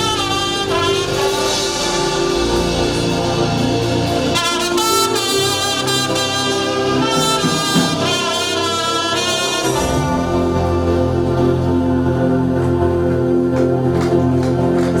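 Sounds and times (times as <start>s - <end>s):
brass melody: 0.0s - 15.0s
sustained chords: 0.0s - 15.0s.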